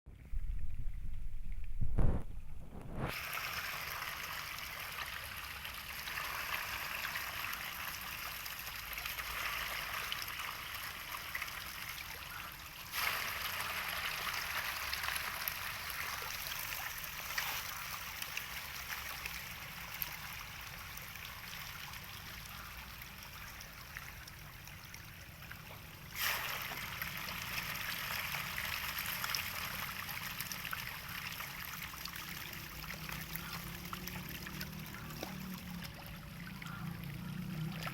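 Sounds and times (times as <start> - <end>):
running trickling water: 2.8 - 37.9.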